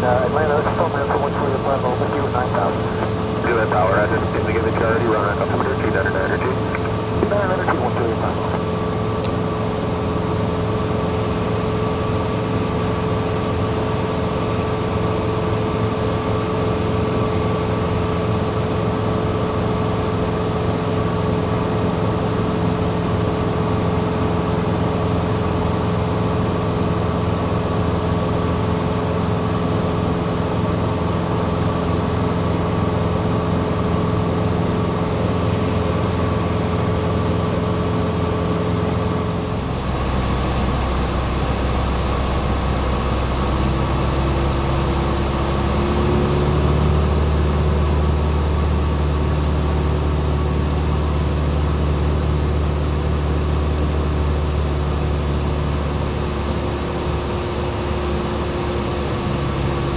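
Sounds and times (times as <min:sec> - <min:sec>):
aircraft engine humming in cabin: 0:00.0 - 0:59.9.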